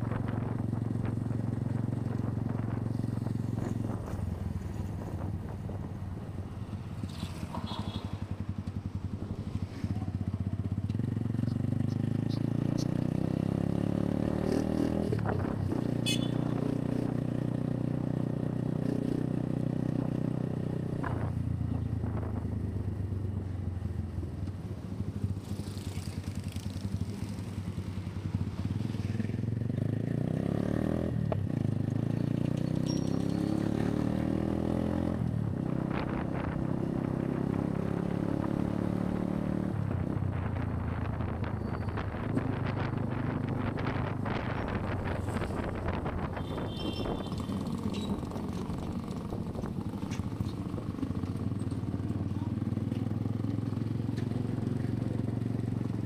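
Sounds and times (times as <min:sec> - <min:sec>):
motorcycle engine: 0:00.1 - 0:22.4, 0:24.8 - 0:56.0.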